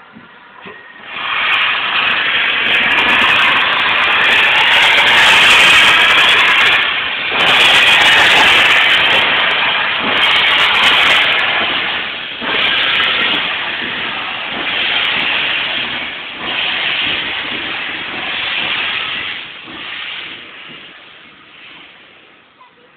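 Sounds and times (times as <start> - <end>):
steam locomotive hissing: 0.5 - 22.9.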